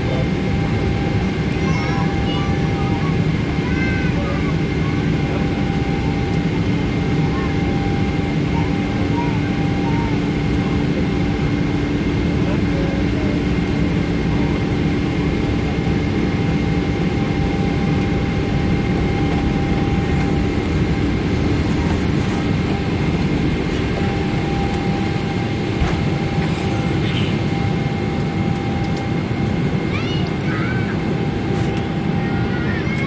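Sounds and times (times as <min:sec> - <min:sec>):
jet engine cabin noise: 0:00.0 - 0:33.0.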